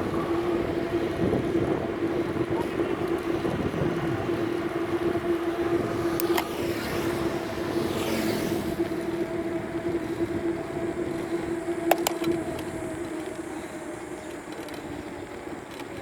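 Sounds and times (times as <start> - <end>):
road and traffic noise: 0.0 - 16.0
vehicle passing: 0.0 - 16.0.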